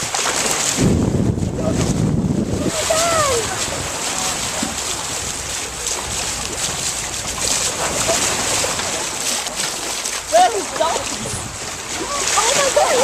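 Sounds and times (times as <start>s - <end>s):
small water splashes: 0.0s - 13.0s
water rushing past hull: 0.0s - 13.0s
wind buffeting microphone: 0.0s - 13.0s.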